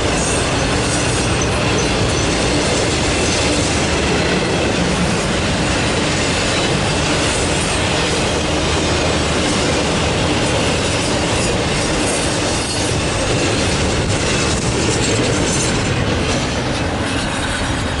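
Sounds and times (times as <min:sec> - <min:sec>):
freight train rumbling past: 0:00.0 - 0:18.0
wheels clicking over rail joints: 0:00.0 - 0:18.0.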